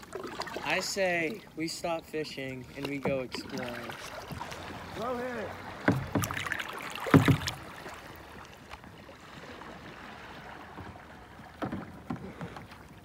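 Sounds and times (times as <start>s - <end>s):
paddle splashing in water: 0.0s - 13.0s
water lapping around hull: 0.0s - 13.0s.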